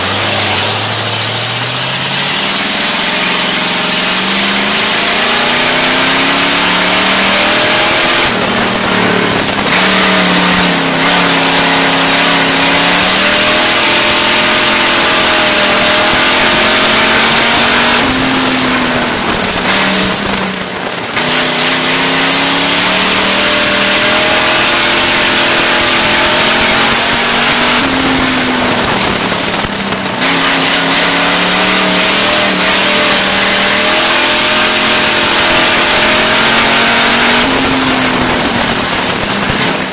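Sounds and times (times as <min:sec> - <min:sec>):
race car engine revving: 0:00.0 - 0:39.9
rushing noise: 0:00.0 - 0:39.9.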